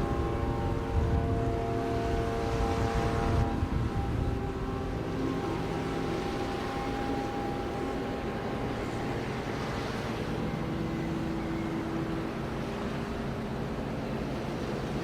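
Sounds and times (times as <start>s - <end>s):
ship horn: 0.0s - 15.0s
wind and water rushing: 0.0s - 15.0s.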